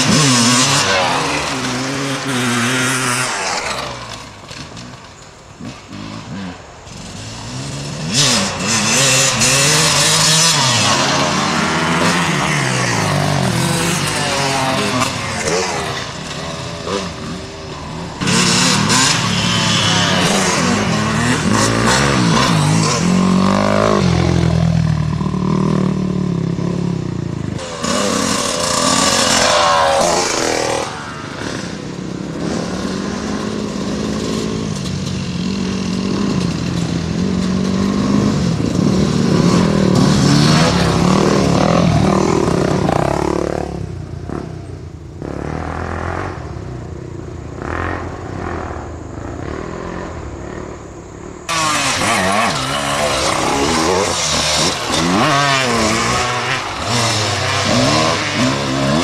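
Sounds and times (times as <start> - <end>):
dirt bikes revving past: 0.0 - 59.0.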